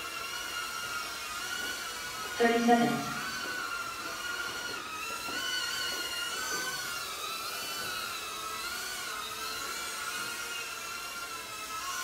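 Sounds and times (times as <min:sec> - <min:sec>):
quadcopter motor whine: 0:00.0 - 0:12.0.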